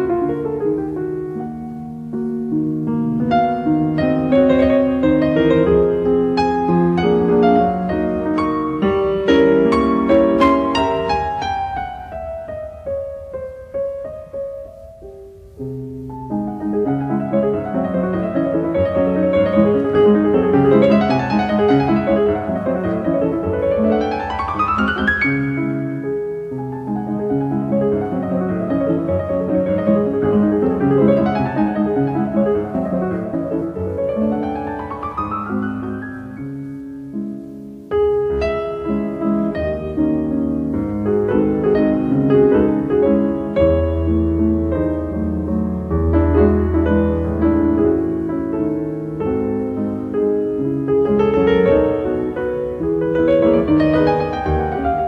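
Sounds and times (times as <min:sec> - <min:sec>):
solo piano music: 0:00.0 - 0:55.0.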